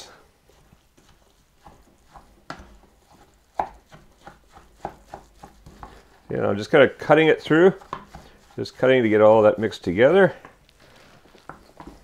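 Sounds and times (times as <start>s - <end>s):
wooden spoon scraping a saucepan: 0.0s - 12.0s.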